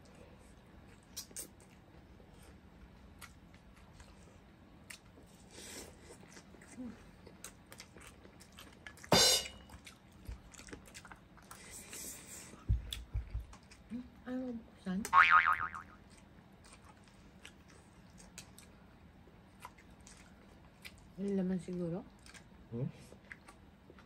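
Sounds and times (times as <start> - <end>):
chewing with mouth clicks: 0.0 - 14.2, 15.9 - 24.0.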